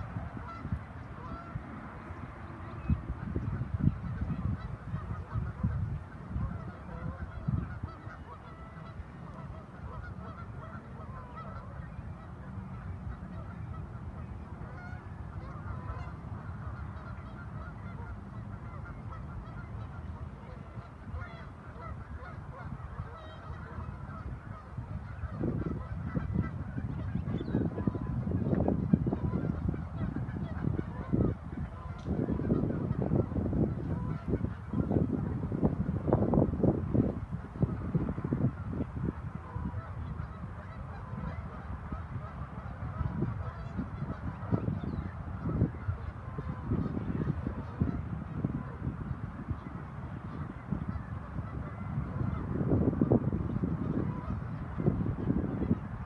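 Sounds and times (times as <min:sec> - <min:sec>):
geese honking: 0:00.0 - 0:56.0.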